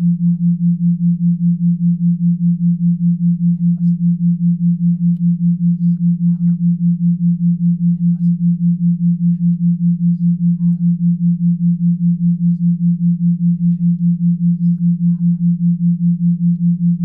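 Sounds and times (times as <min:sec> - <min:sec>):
pulsing electronic sine tone: 0:00.0 - 0:17.0.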